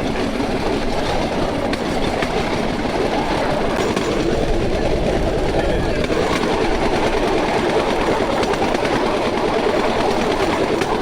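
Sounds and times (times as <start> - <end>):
platform rattling on rails: 0.0 - 11.0.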